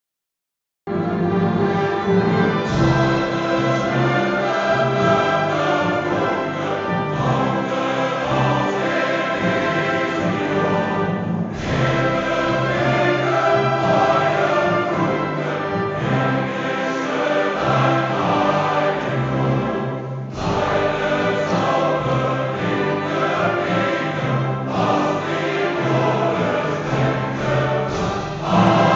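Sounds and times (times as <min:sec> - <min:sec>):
choir singing with orchestra: 0:00.9 - 0:28.9.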